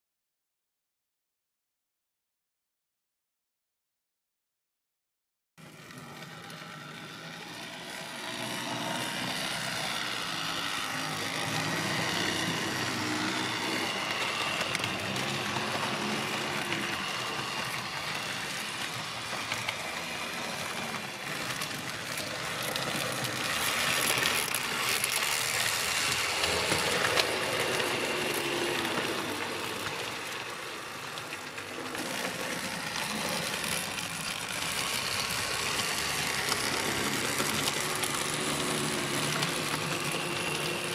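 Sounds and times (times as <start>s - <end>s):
model train motor hum: 5.6s - 40.9s
model train wheels rattling on rail: 5.7s - 40.9s.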